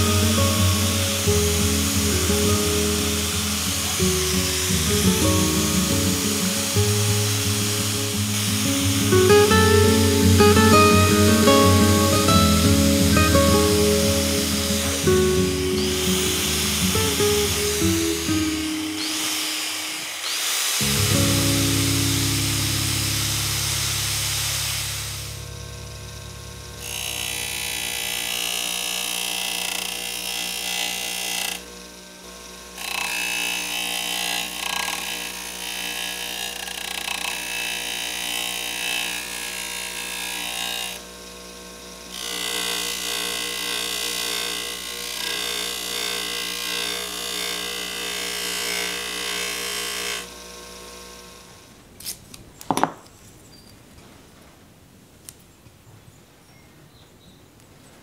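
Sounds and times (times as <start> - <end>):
grinder motor hum: 0.0 - 51.9
bench grinder buffing metal: 0.0 - 52.2.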